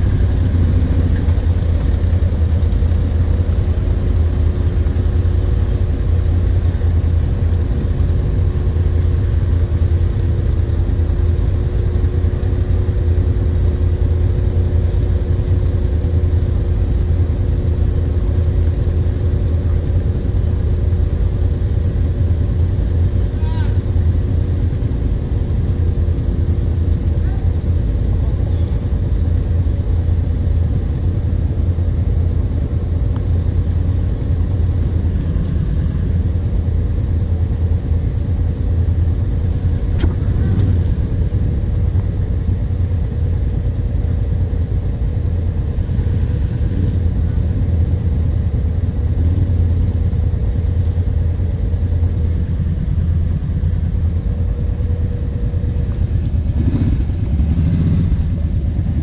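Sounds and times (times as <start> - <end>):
quad bike engine running at low revs: 0.0 - 59.0.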